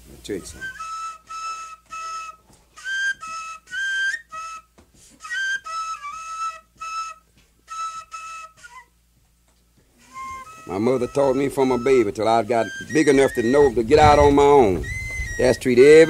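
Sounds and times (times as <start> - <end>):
fife playing: 0.3 - 16.0.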